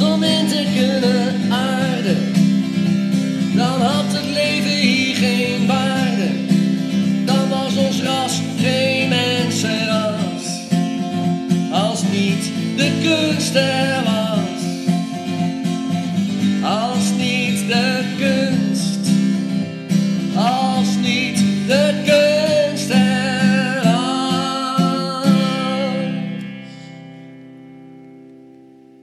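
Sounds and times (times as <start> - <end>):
man singing: 0.0 - 10.9, 11.5 - 15.5, 16.4 - 19.5, 20.2 - 26.5
acoustic guitar: 0.0 - 29.0.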